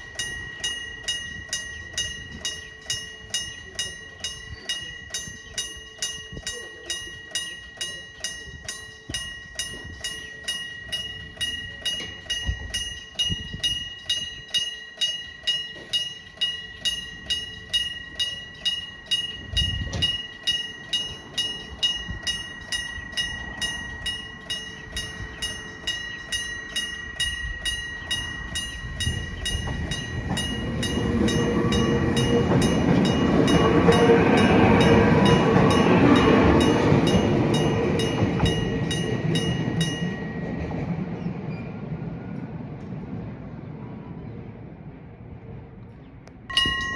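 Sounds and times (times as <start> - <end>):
level crossing bell ringing: 0.0 - 41.2, 46.5 - 46.9
train rumble passing: 8.4 - 46.9.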